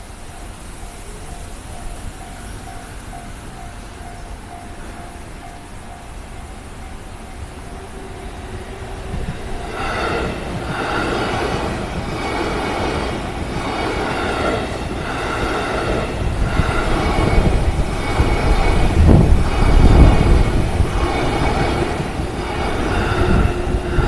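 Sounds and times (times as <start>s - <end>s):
crossing warning bell: 0.0s - 24.0s
train rumbling past: 0.0s - 24.0s.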